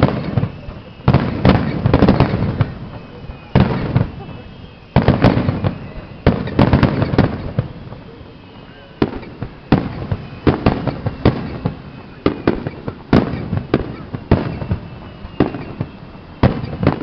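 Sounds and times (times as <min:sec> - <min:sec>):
fireworks bursting with echo: 0:00.0 - 0:17.0.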